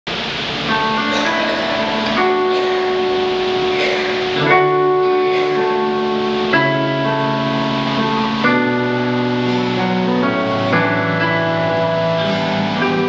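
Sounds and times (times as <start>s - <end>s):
instrumental music chords: 0.1s - 13.0s.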